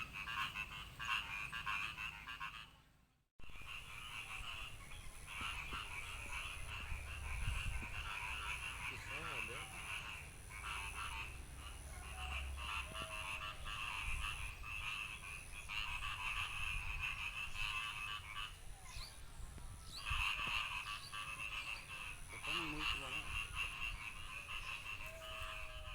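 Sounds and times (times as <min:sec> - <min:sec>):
frogs croaking in chorus: 0:00.0 - 0:02.8, 0:03.4 - 0:19.1, 0:19.9 - 0:25.9.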